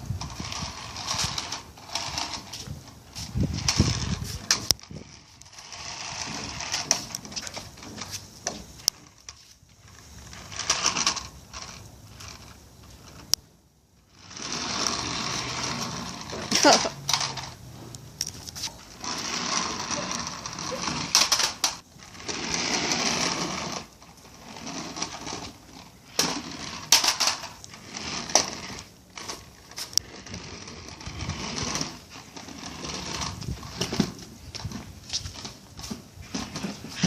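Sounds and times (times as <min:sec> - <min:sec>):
toy car electric motor whirring: 0:00.1 - 0:13.4, 0:14.0 - 0:17.6, 0:18.2 - 0:37.0.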